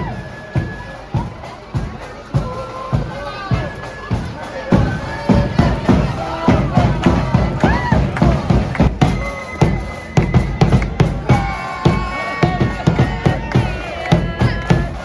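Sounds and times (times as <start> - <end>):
loud music with heavy drum beat: 0.0 - 15.0
voices over music: 0.0 - 15.0.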